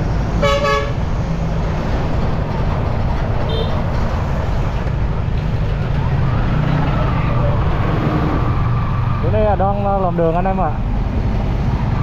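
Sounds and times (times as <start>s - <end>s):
rushing wind and road noise: 0.0s - 12.0s.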